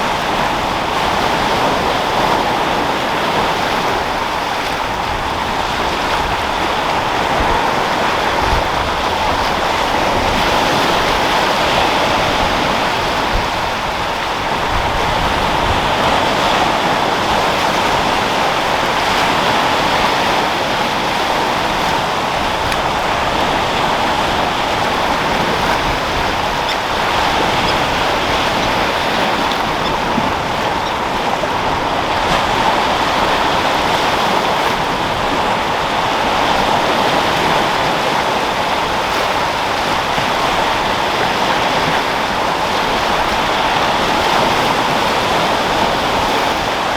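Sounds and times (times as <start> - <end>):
sea waves breaking: 0.0 - 46.9
wind: 0.0 - 46.9.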